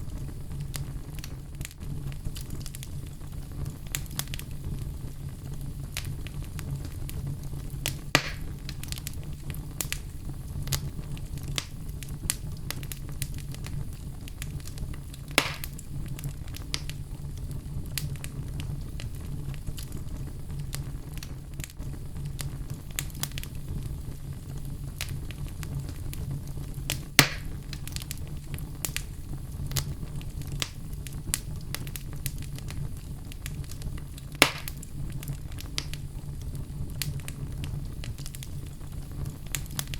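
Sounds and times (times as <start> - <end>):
fire crackling: 0.0 - 39.9
fire flame rumble: 0.0 - 39.9
fire popping: 0.0 - 39.9.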